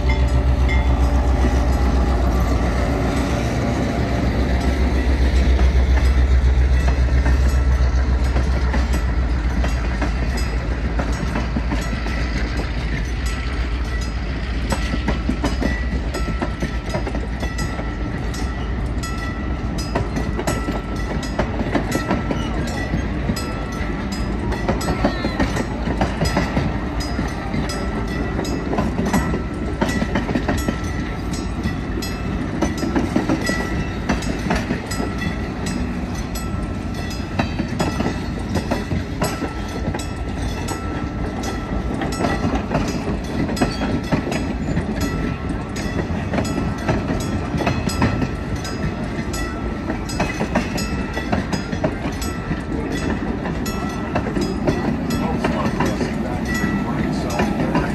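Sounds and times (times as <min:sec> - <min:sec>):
crossing bell dinging: 0:00.0 - 0:57.9
train cars rumbling past: 0:00.0 - 0:57.9
wheels clicking over rail joints: 0:00.0 - 0:57.9.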